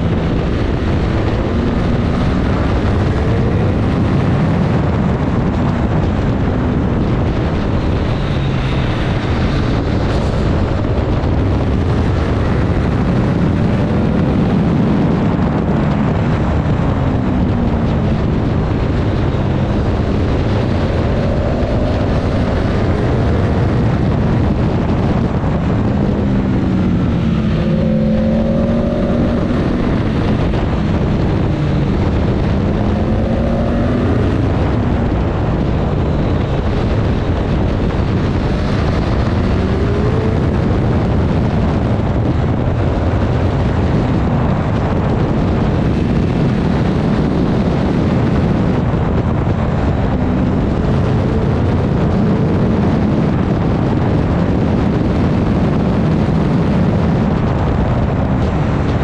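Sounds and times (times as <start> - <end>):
motorcycle engine revving at speed: 0.0 - 59.0
wind rushing over microphone: 0.0 - 59.0.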